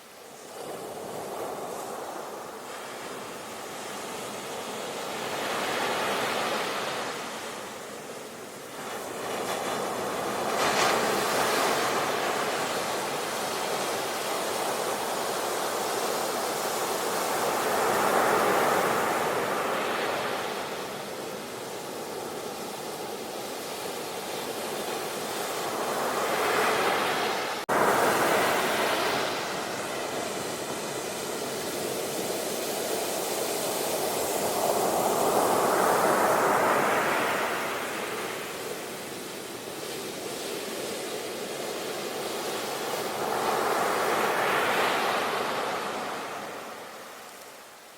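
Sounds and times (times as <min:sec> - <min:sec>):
ocean surf washing onto beach: 0:00.0 - 0:47.9.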